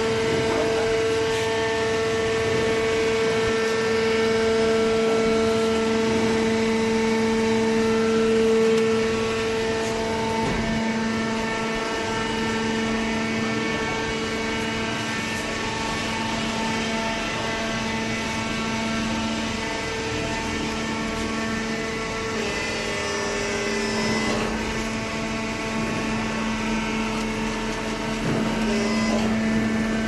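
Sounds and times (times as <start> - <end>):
hydraulic baler machine hum: 0.0 - 30.0.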